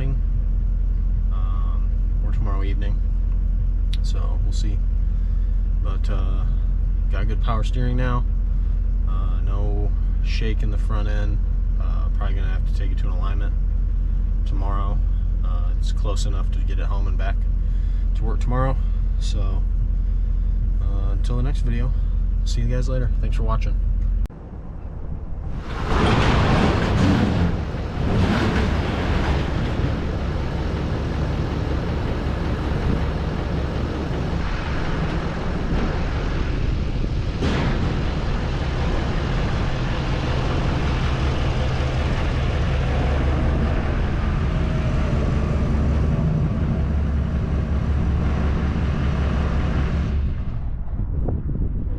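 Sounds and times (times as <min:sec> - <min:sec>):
diesel engine running: 0:00.0 - 0:51.8.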